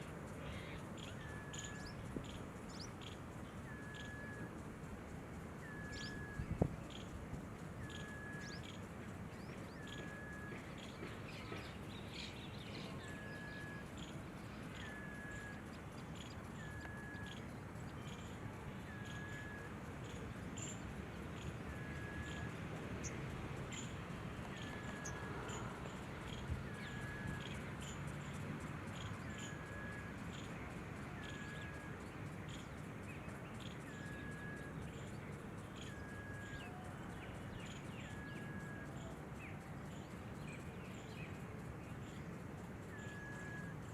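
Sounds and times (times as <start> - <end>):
steady background noise: 0.0 - 43.9.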